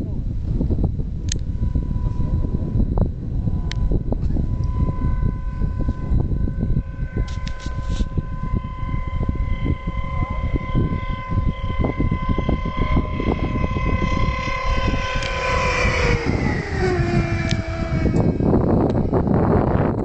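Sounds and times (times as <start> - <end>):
wind rumbling on microphone: 0.0 - 20.0
glider whistling in flight: 0.2 - 20.0.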